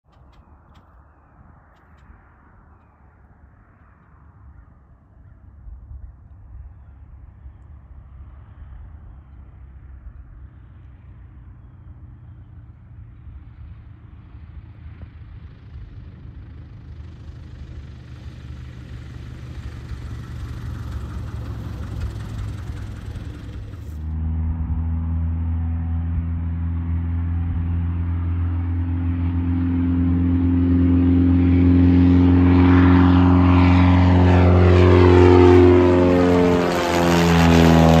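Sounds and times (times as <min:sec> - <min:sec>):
small plane engine droning: 0:00.0 - 0:38.0
plane engine at full power: 0:00.1 - 0:38.0.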